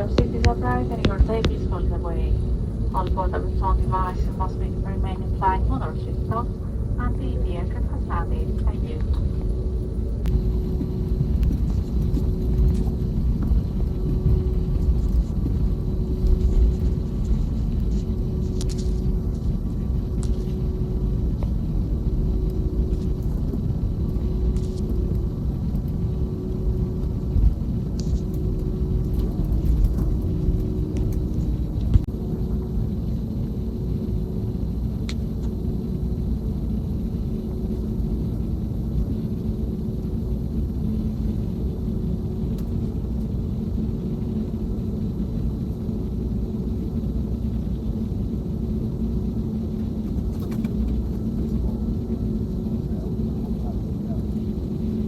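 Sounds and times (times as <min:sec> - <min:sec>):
aircraft cabin rumble: 0:00.0 - 0:55.0
constant hum: 0:00.0 - 0:55.0.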